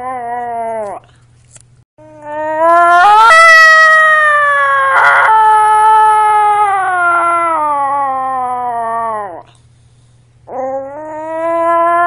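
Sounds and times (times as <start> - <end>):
dog howling: 0.0 - 1.0, 2.1 - 9.5, 10.5 - 12.0.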